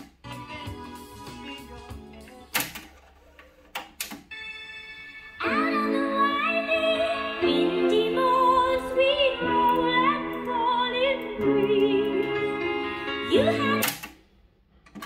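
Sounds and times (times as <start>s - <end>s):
classical music from cassette: 0.0s - 14.2s.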